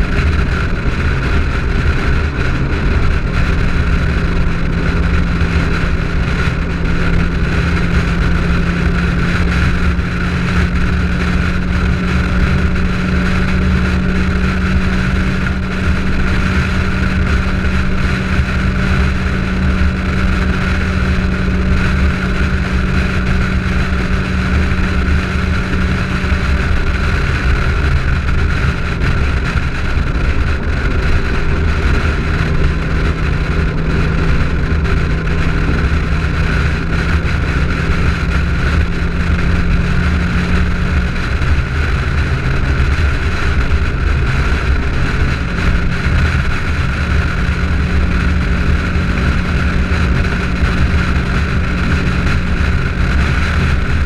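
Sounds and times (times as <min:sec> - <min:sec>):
car engine droning at cruise: 0:00.0 - 0:54.0
wind noise: 0:00.0 - 0:54.0.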